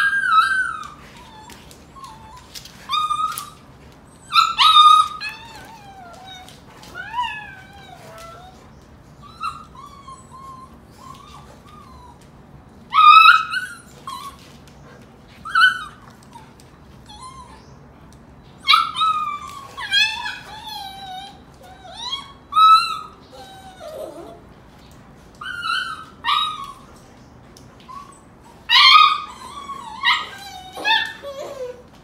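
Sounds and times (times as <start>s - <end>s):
puppy yelping and whimpering: 0.0s - 8.6s, 9.2s - 12.3s, 12.9s - 14.6s, 15.4s - 17.8s, 18.6s - 24.5s, 25.4s - 27.0s, 27.9s - 32.0s.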